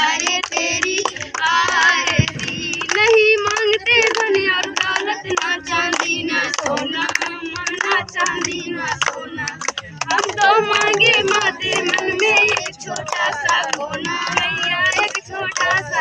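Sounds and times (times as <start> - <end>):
hands clapping: 0.0 - 16.0
women and children singing: 0.0 - 16.0.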